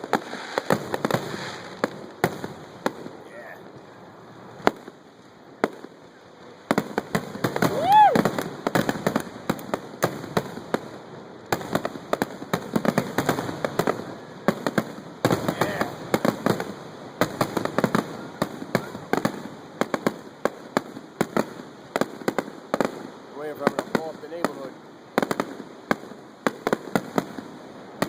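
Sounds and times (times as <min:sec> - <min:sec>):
fireworks bangs and cracks: 0:00.0 - 0:28.0.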